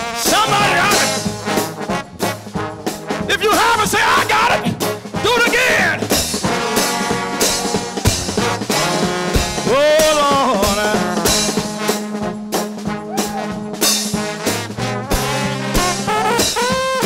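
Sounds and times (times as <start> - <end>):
trombone band playing gospel: 0.0 - 17.0.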